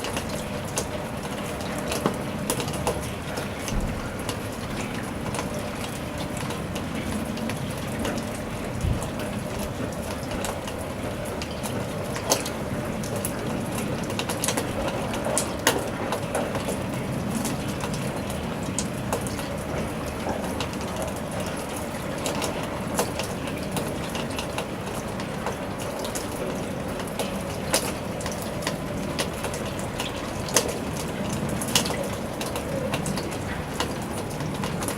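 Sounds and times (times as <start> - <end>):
raindrops tapping: 0.0 - 34.9
steady rain falling: 0.0 - 34.9.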